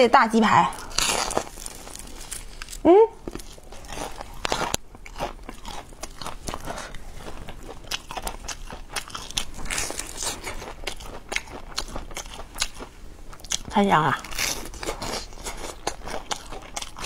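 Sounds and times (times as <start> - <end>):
crunching of fried chicken chewed: 0.9 - 17.0.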